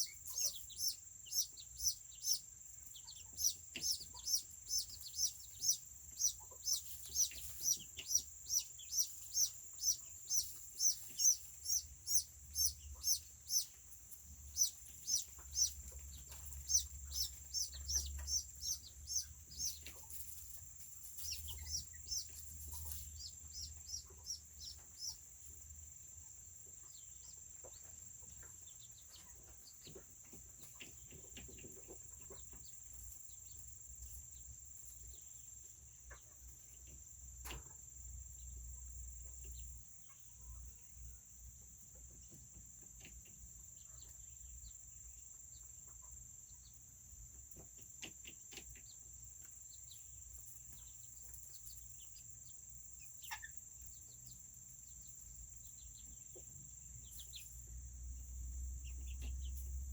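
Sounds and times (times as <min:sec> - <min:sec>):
chick peeping: 0:00.0 - 0:59.9.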